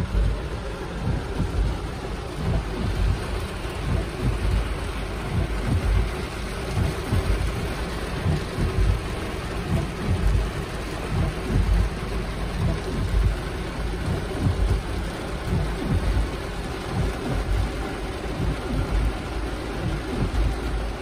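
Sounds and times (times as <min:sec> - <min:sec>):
heavy rain on car roof: 0:00.0 - 0:21.0.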